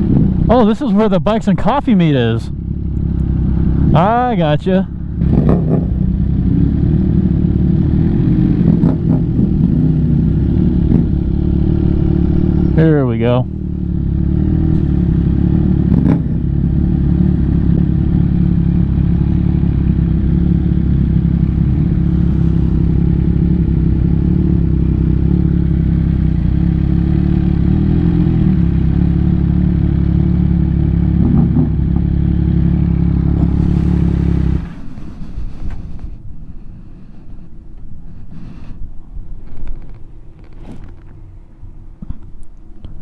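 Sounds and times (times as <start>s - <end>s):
motorcycle engine running: 0.0s - 38.2s.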